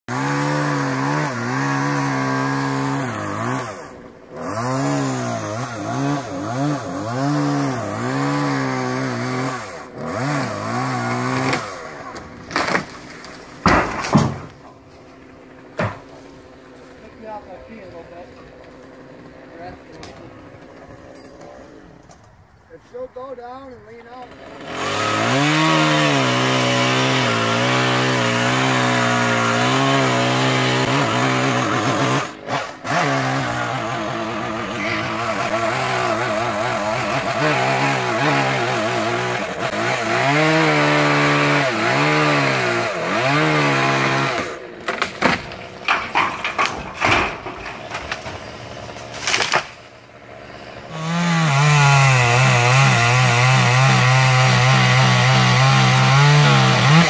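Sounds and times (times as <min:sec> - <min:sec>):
chainsaw cutting wood: 0:00.1 - 0:22.3, 0:24.0 - 0:57.0.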